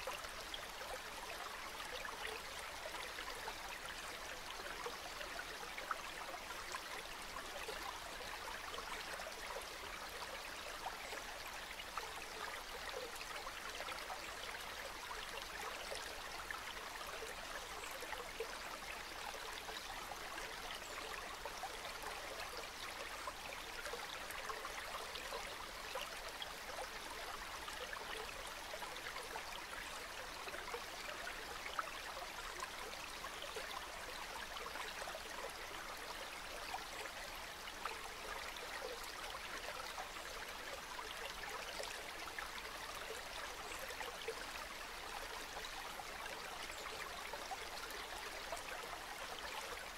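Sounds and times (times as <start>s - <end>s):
river water babbling: 0.0s - 49.9s.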